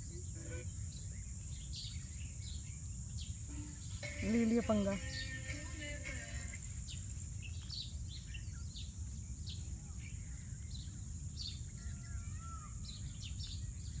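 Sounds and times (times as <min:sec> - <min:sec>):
birds chirping: 0:00.0 - 0:14.0
high insect buzz: 0:00.0 - 0:14.0
low wind rumble: 0:00.0 - 0:14.0.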